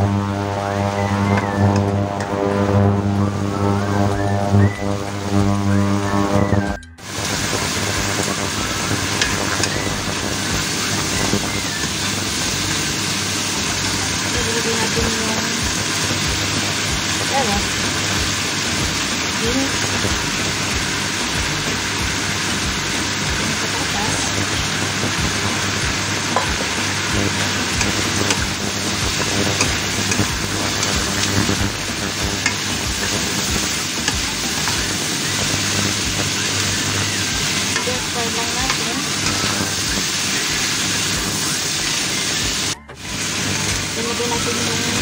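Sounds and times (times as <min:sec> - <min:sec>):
meat sizzling in hot oil: 0:00.0 - 0:45.0.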